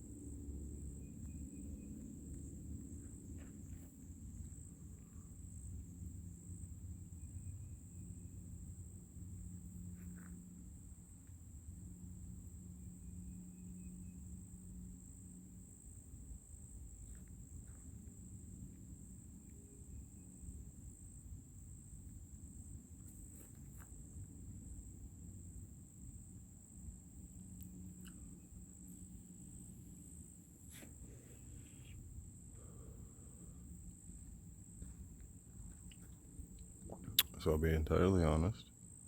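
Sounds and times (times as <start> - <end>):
insects buzzing: 0.0 - 39.0.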